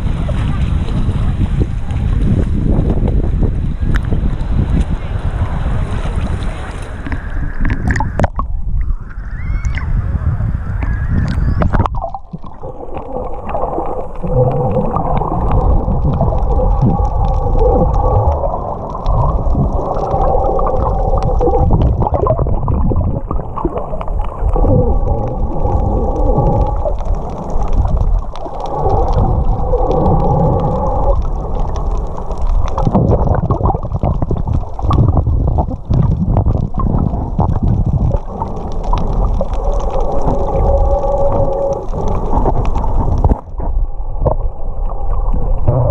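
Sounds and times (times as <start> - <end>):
steady crackle: 0.0 - 45.9
underwater water sloshing: 3.9 - 10.0, 10.7 - 45.9.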